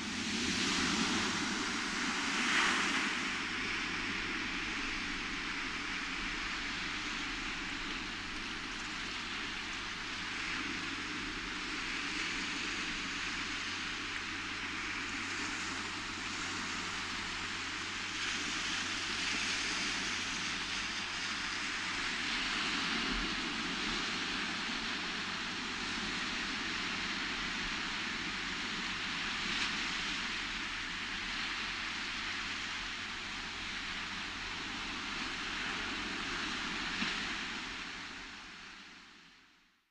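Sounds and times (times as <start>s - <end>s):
surf washing over rocks: 0.0s - 39.0s.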